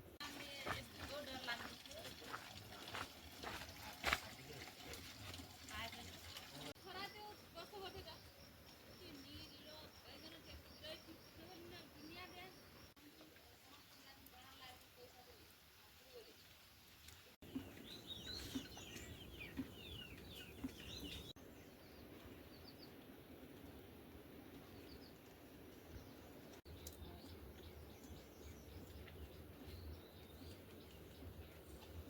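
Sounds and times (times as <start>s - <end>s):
faint outdoor hiss: 0.0s - 32.0s
small birds chirping: 0.4s - 4.9s, 5.7s - 23.2s, 24.4s - 32.0s.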